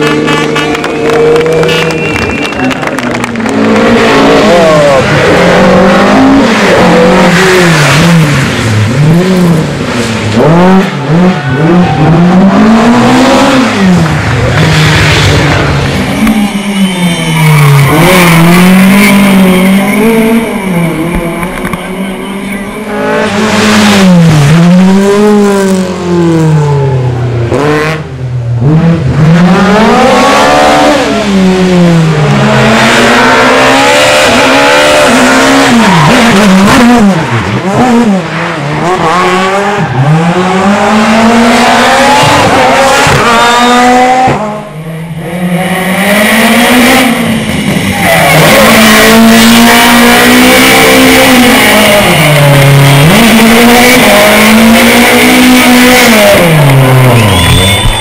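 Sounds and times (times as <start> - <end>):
rally car engines accelerating: 0.0 - 58.0.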